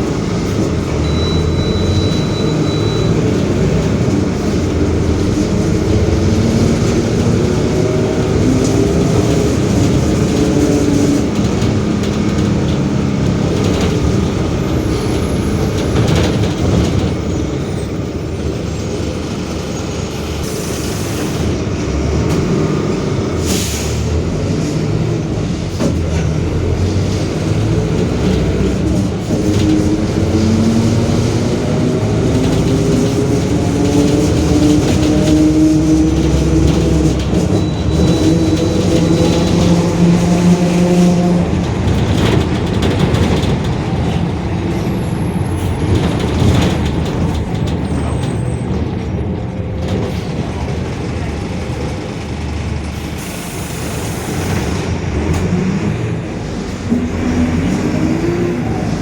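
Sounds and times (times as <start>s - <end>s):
bus diesel engine under load: 0.0s - 59.0s.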